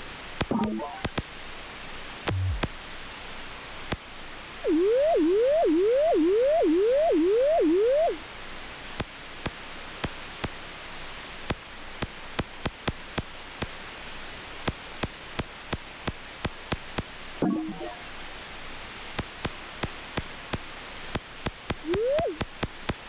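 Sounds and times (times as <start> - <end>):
steady hiss: 0.0 - 4.7, 8.1 - 23.0.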